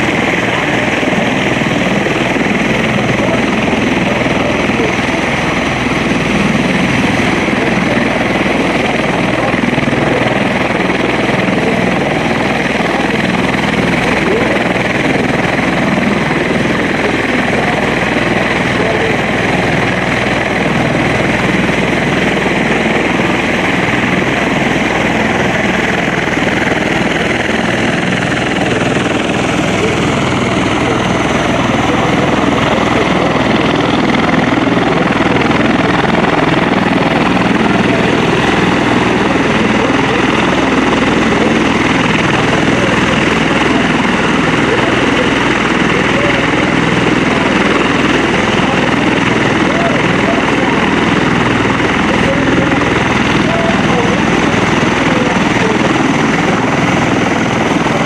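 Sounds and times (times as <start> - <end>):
propeller plane engine overhead: 0.0 - 58.0.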